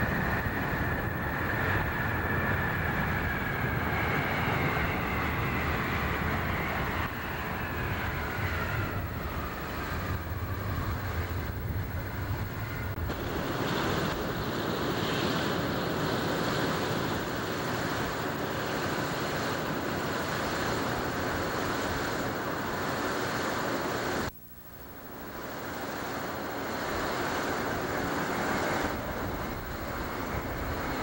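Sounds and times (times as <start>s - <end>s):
distant jet engines roaring: 0.0s - 31.0s.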